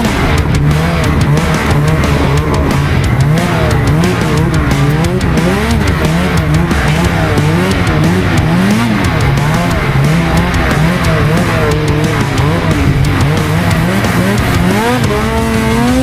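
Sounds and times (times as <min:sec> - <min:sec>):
snowmobile engine running hard: 0:00.0 - 0:16.0.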